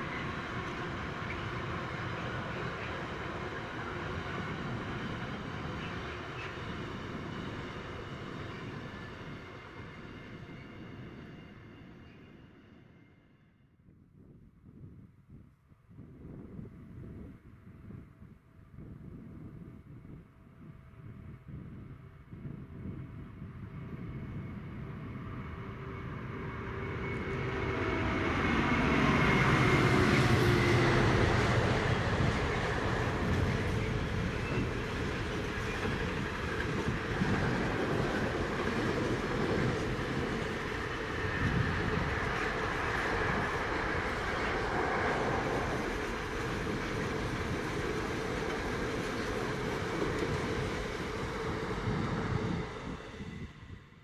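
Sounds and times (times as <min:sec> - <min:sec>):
freight train rumbling over rails: 0:00.0 - 0:12.9, 0:18.9 - 0:54.0
diesel locomotive engine: 0:00.0 - 0:13.0, 0:18.8 - 0:54.0.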